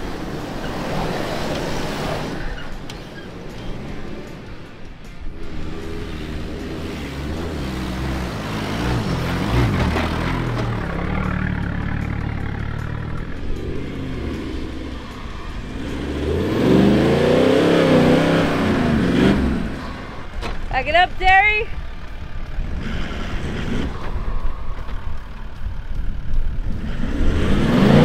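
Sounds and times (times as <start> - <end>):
car engine revving: 0.0 - 28.0
four-wheel-drive engines revving: 0.0 - 28.0.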